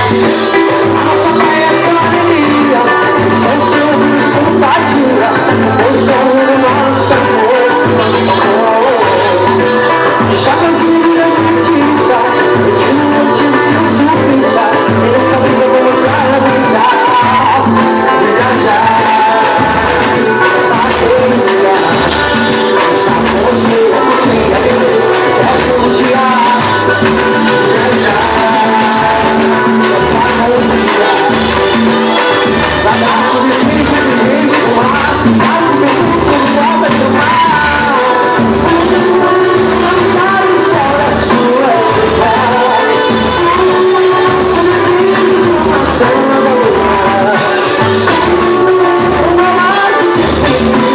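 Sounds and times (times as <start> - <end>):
bass line: 0.0 - 50.9
hand percussion: 0.0 - 50.9
person singing: 0.0 - 50.9.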